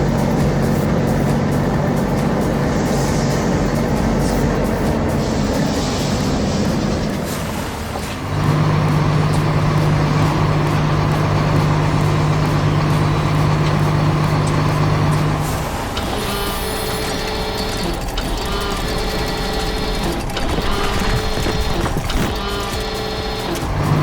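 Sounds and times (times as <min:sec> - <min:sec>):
faint mechanical tones: 0:00.0 - 0:24.0
heavy truck engine running: 0:00.0 - 0:24.0.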